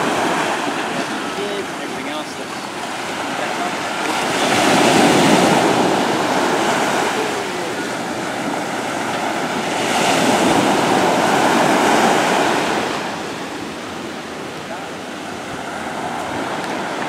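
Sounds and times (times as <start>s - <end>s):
small waves washing onto beach: 0.0s - 17.0s.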